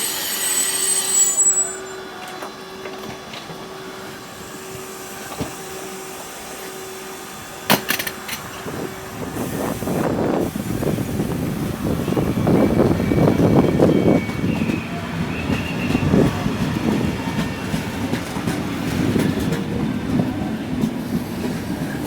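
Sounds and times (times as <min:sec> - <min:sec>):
train wheel squeal: 0:00.0 - 0:19.5.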